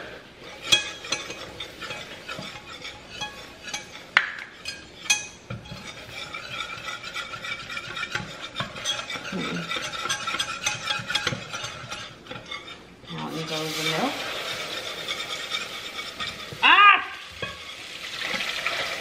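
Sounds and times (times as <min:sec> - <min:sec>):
whisk scraping in saucepan: 0:00.0 - 0:19.0.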